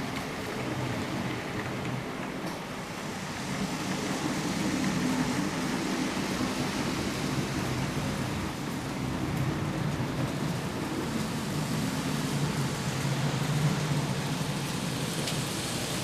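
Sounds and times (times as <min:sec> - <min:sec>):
model train whir and rumble: 0:00.0 - 0:16.0.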